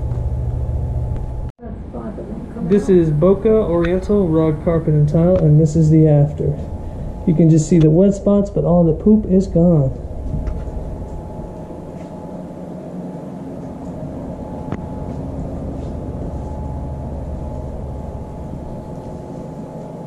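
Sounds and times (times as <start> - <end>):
faint steady whine: 0.0 - 20.0
carpet-cleaning machine humming: 2.5 - 20.0.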